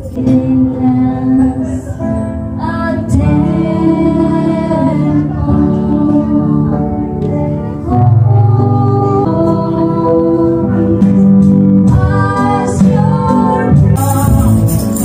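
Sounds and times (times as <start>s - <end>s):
keyboard accompaniment: 0.0s - 15.0s
women singing into microphones: 0.0s - 15.0s.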